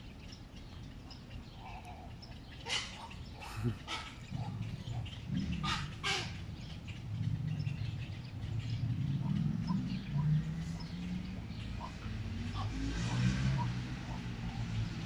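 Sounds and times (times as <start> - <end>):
harsh bird calls: 0.0 - 15.0
low steady rumble: 0.0 - 15.0.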